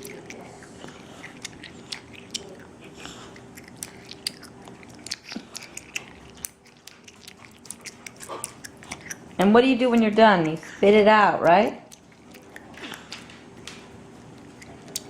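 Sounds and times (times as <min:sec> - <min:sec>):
child chewing gum: 0:00.0 - 0:10.8, 0:11.7 - 0:15.0.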